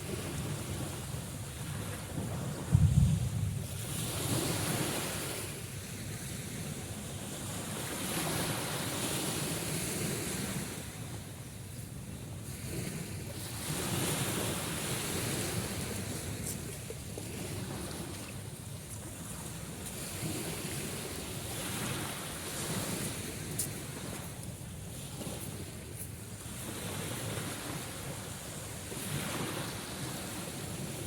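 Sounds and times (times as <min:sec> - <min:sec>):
sea surf washing ashore: 0:00.0 - 0:31.0.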